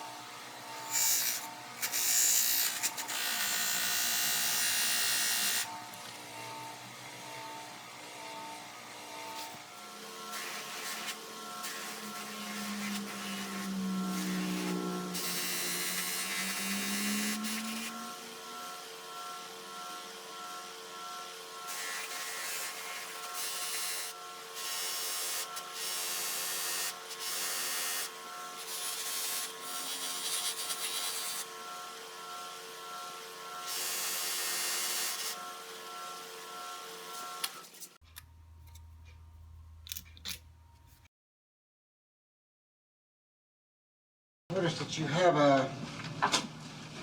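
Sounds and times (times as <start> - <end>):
small power tool grinding: 0.0 - 38.8.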